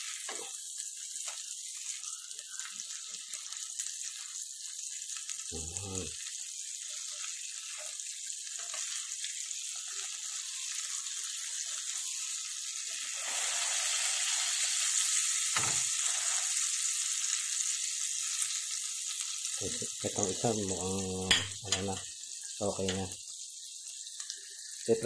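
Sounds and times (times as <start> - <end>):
patties sizzling in hot oil: 0.0 - 25.0.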